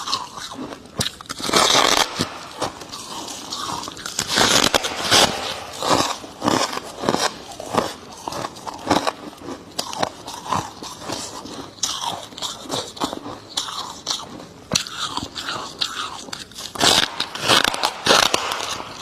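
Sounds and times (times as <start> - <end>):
chewing crunchy ice: 0.0 - 19.0.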